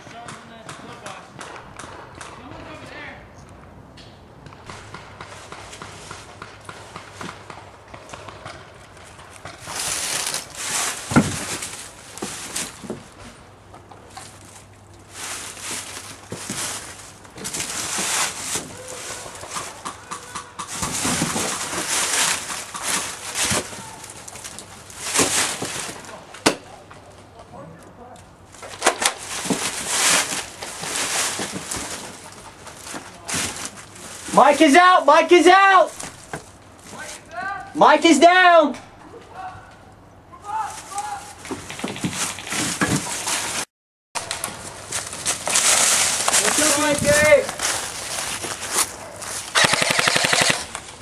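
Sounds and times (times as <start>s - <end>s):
rustling through dry brush and leaves: 4.6s - 27.4s, 28.4s - 34.8s, 35.9s - 37.4s, 40.4s - 51.0s.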